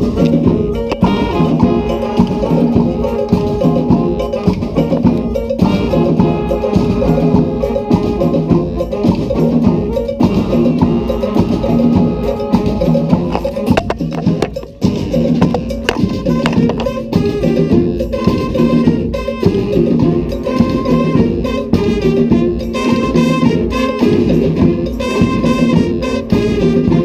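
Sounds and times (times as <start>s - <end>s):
brass band playing afrobeat: 0.0s - 27.0s.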